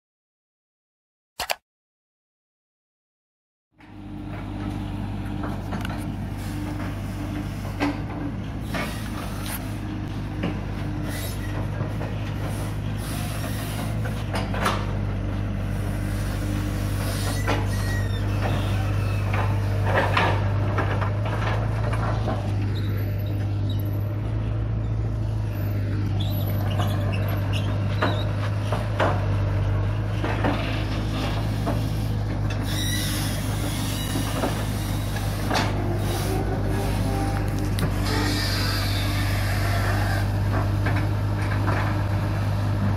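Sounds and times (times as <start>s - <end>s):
diesel engine running: 3.8s - 42.9s.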